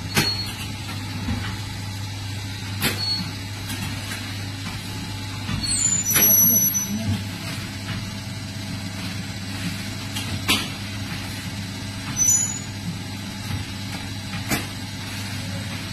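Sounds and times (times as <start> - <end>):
packaging machine humming: 0.0 - 15.9.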